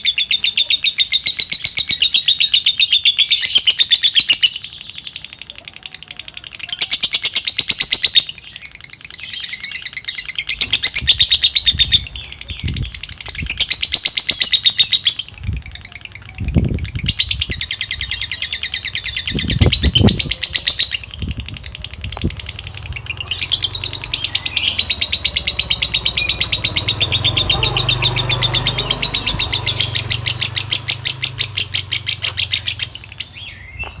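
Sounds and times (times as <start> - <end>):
lovebird chattering trill: 0.0 - 33.9.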